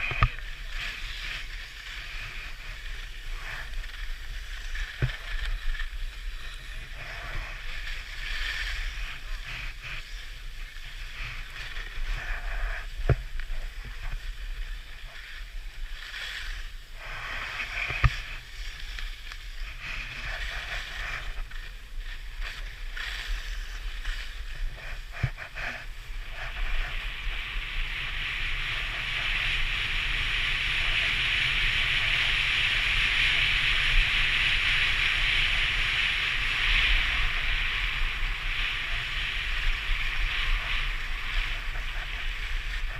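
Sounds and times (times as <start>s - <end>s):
skis scraping over snow: 0.0s - 42.9s
wind rumble on microphone: 0.0s - 42.9s.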